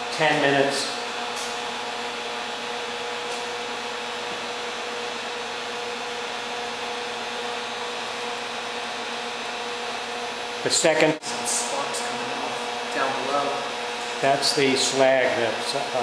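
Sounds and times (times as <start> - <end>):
induction heater whirring hum: 0.0 - 16.0.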